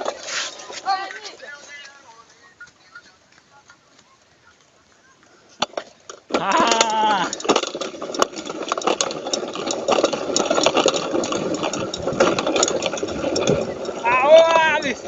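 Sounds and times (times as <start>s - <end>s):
bike rattling on dirt trail: 0.0s - 15.0s.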